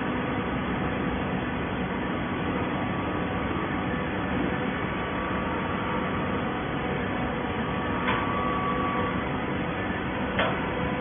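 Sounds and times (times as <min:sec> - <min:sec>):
hydraulic power unit with whine: 0:00.0 - 0:11.0.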